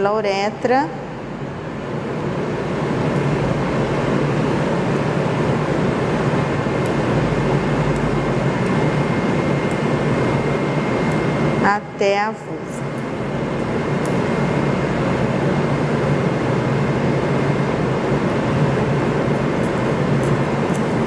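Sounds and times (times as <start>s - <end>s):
ventilation rushing: 0.0s - 21.0s.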